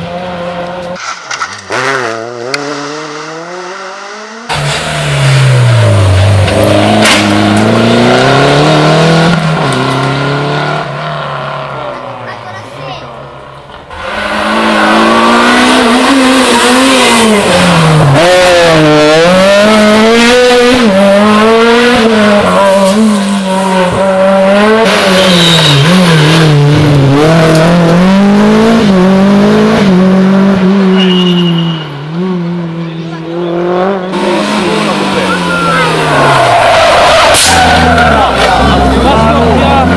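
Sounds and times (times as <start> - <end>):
rally car engine at full throttle: 0.0 - 39.9.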